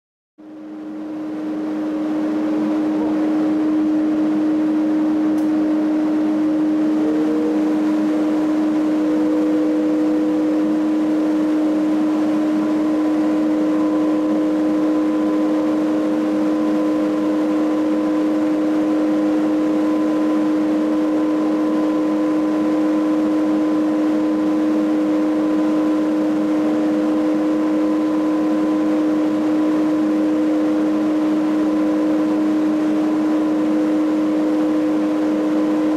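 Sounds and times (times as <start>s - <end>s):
fogging machine electric hum: 0.4s - 35.9s.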